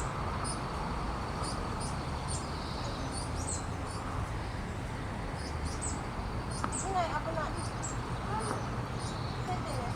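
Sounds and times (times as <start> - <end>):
small birds chirping: 1.3 - 4.8, 5.4 - 9.9.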